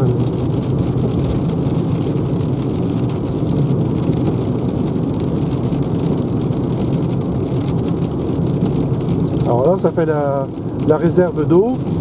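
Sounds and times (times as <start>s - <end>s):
rain ticking on windscreen: 0.0s - 12.0s
road and tyre rumble in car: 0.0s - 12.0s.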